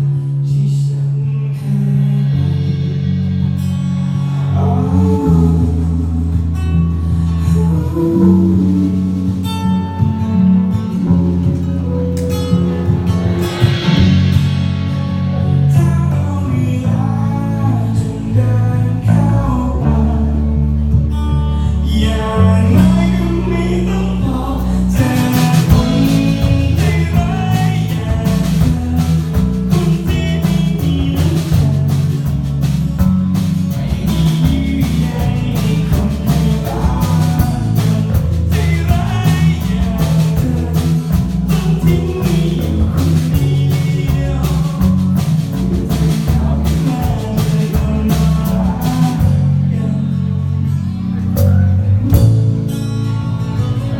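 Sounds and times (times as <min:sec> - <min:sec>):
man singing: 0:00.0 - 0:03.5, 0:04.2 - 0:12.1, 0:15.0 - 0:53.9
strummed guitar: 0:00.0 - 0:53.9
sustained bass notes: 0:00.0 - 0:53.9.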